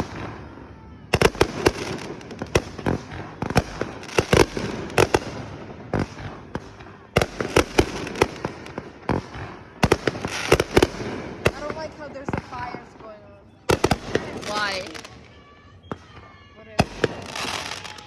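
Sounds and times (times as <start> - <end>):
fireworks bangs and cracks: 0.0 - 18.0
fireworks hissing and crackling: 0.0 - 18.0.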